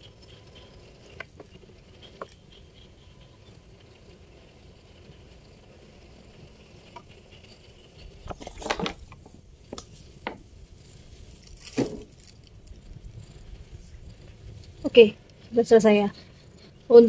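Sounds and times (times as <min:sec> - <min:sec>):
faint steady background: 0:00.0 - 0:17.0.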